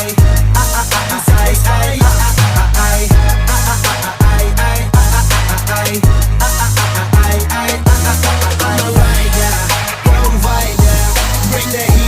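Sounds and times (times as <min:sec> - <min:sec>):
hip-hop music with deep bass: 0:00.0 - 0:12.0.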